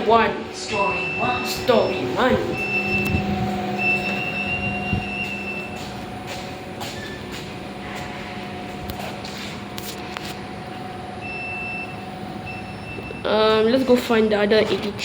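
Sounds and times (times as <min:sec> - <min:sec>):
thin high whine: 0:00.0 - 0:13.4
lift machinery hum: 0:00.0 - 0:15.0.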